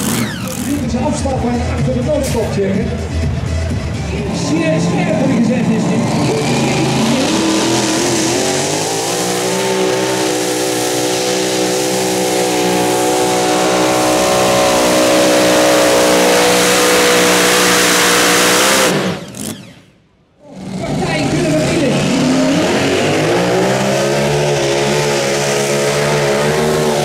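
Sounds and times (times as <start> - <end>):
tractor engine at full throttle: 0.0 - 27.0.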